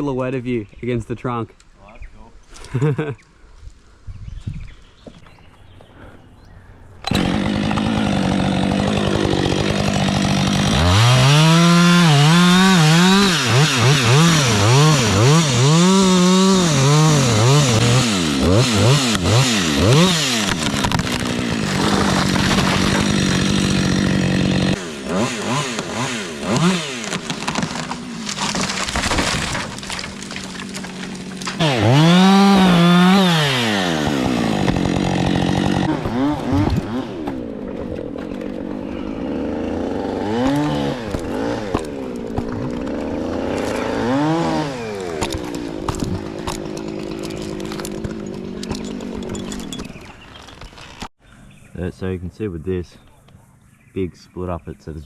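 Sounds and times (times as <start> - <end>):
chainsaw cutting wood: 7.0 - 51.1.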